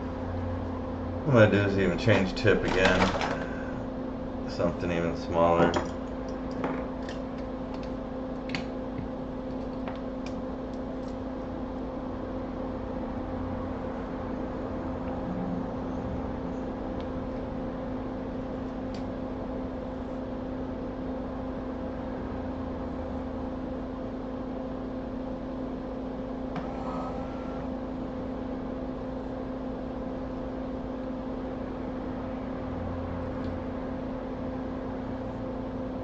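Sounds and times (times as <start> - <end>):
bench equipment motor hum: 0.0 - 36.0.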